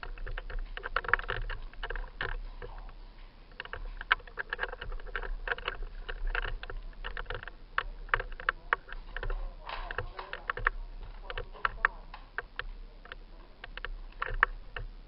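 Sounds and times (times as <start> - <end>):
rapid clicks and crunches: 0.0 - 15.0.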